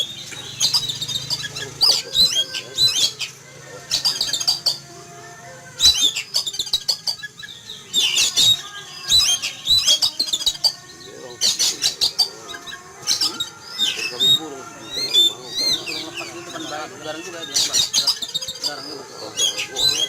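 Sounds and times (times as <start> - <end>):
bird singing whistled phrases: 0.0 - 4.8, 5.8 - 20.0.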